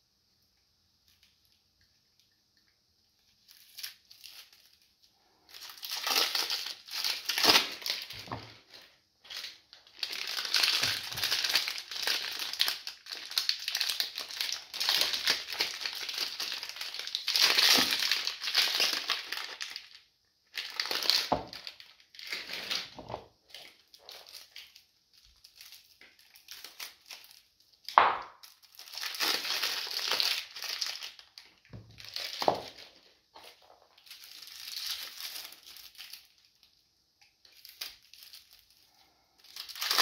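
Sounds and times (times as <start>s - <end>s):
plastic wrapping crinkling: 1.1s - 40.0s.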